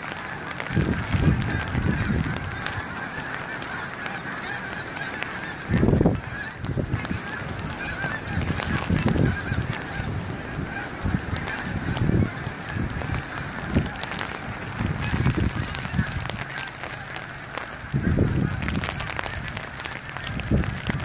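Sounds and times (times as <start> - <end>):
geese honking: 0.0 - 21.0
wind buffeting microphone: 0.0 - 21.0.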